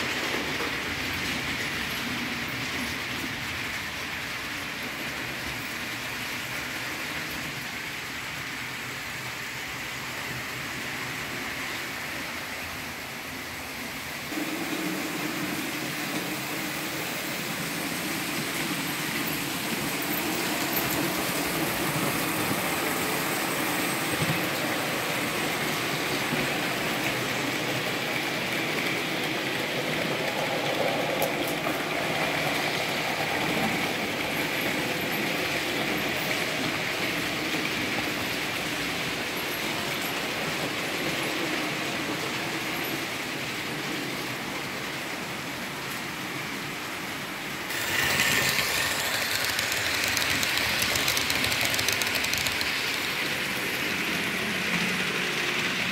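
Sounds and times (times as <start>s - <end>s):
model trains whirring on track: 0.0s - 55.9s.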